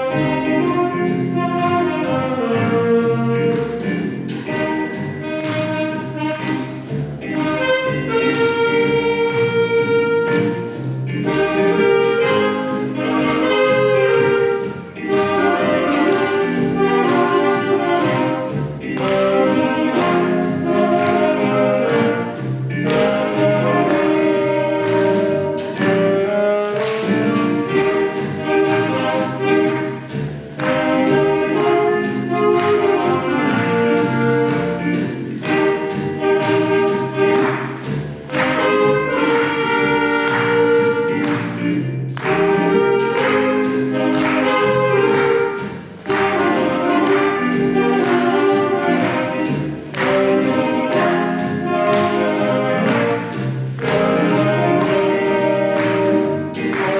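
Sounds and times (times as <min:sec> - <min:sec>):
saxophone ensemble melody: 0:00.0 - 0:56.9
steady beat: 0:00.0 - 0:56.9.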